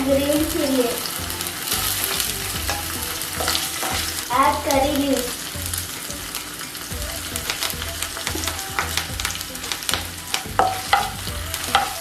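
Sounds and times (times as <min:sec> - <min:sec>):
leaves sizzling and popping in oil: 0:00.0 - 0:12.0.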